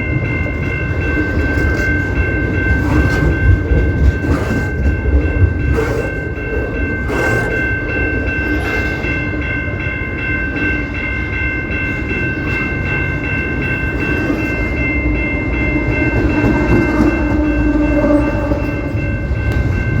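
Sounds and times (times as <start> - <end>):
train wheels rumbling and clacking: 0.0 - 20.0.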